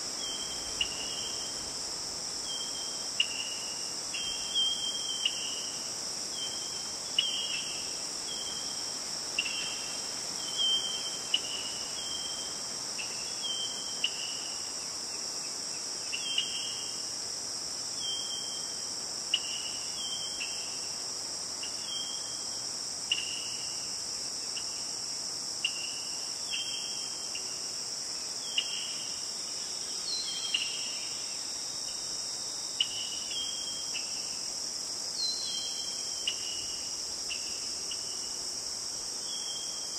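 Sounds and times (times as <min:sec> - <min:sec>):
insect chirps: 0:00.0 - 0:39.9
insects droning: 0:00.0 - 0:39.9.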